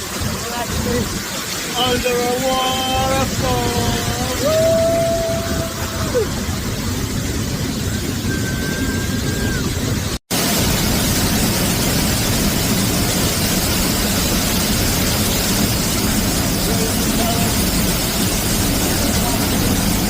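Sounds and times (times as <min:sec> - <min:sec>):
roar of falling water: 0:00.0 - 0:20.0.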